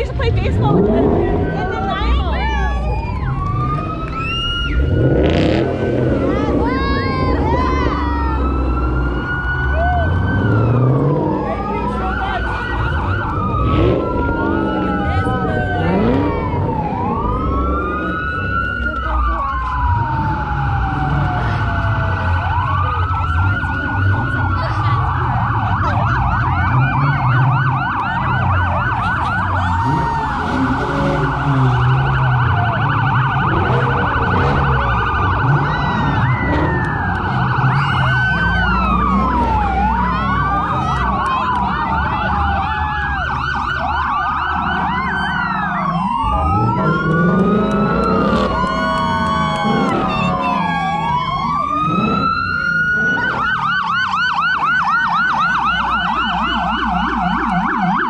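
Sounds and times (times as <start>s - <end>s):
car engines driving past: 0.0s - 58.0s
police sirens wailing and yelping: 0.0s - 58.0s.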